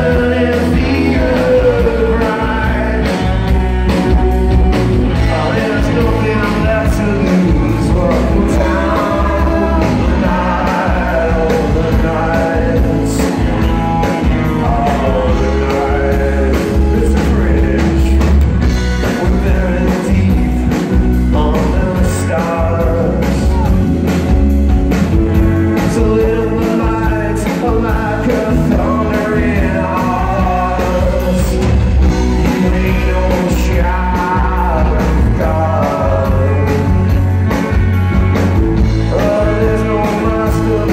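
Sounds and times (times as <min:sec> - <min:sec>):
person singing: 0:00.0 - 0:03.6, 0:05.1 - 0:24.0, 0:25.7 - 0:37.4, 0:39.0 - 0:40.9
bass guitar: 0:00.0 - 0:40.9
drums: 0:00.0 - 0:40.9
electric guitars: 0:00.0 - 0:40.9.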